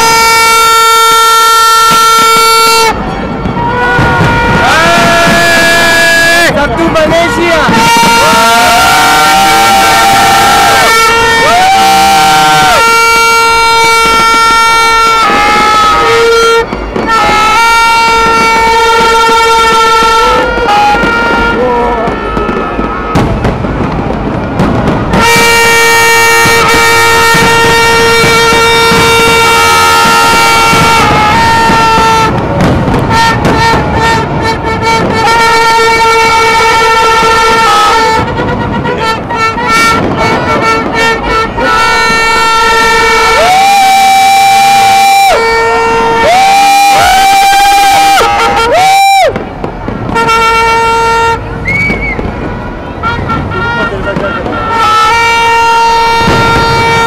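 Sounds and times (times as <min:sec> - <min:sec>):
loud horns blowing long notes: 0:00.0 - 0:57.0.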